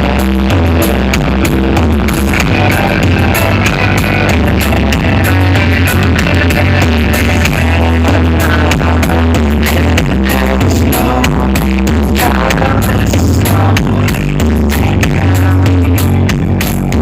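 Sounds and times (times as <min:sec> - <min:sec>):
loud electronic dance music: 0:00.0 - 0:17.0.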